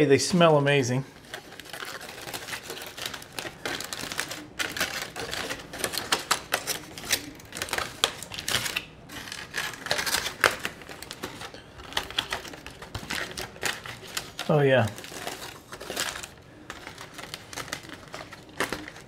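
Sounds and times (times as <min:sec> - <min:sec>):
aluminum foil crinkling: 0:01.1 - 0:19.0.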